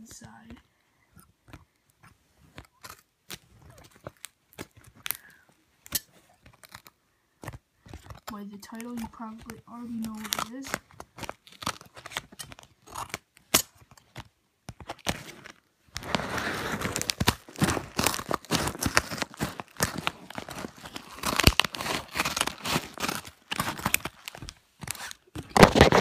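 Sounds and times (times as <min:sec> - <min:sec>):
plastic packaging crinkling and tearing: 0:02.5 - 0:26.0.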